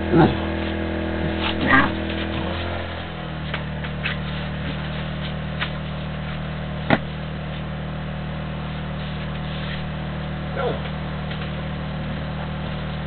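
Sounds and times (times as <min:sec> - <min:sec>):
generator humming: 0:00.0 - 0:13.0.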